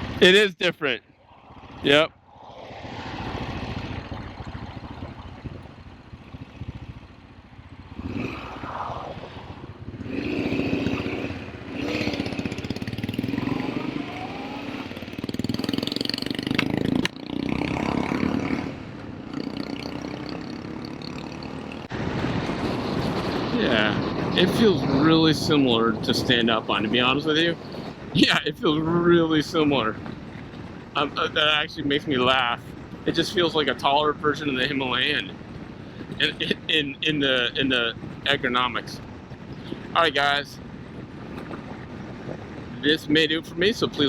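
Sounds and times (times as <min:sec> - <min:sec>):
motorcycle engine revving: 0:01.1 - 0:44.0.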